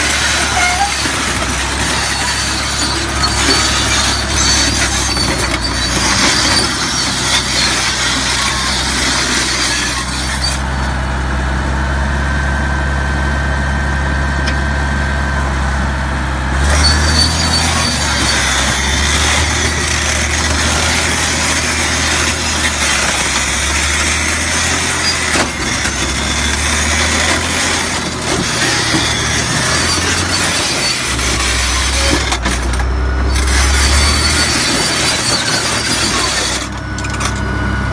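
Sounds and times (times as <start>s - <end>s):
steel tracks grinding and clanking: 0.0s - 11.1s, 16.5s - 37.9s
bulldozer diesel engine under load: 0.0s - 37.9s.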